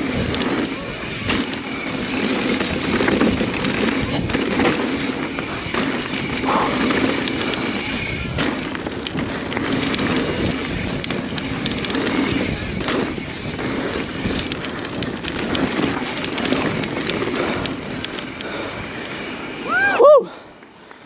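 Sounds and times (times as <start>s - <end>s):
wind rushing over microphone: 0.0s - 20.0s
bike rattling and clicking: 0.0s - 21.0s
bike tyres on dirt: 0.0s - 21.0s.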